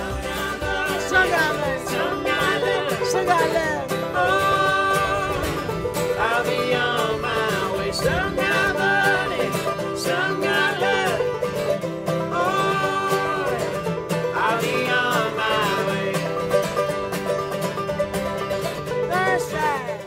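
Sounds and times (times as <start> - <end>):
country song with plucked strings: 0.0 - 20.0.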